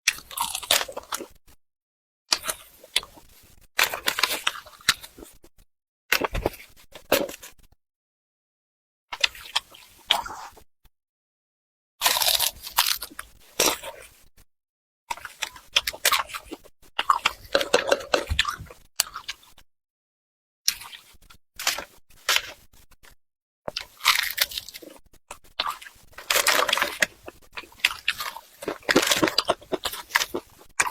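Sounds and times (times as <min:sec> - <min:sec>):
crisp chewing and mouth sounds: 0:00.1 - 0:01.5, 0:02.3 - 0:07.7, 0:09.2 - 0:10.7, 0:12.0 - 0:14.4, 0:15.1 - 0:19.6, 0:20.7 - 0:30.9.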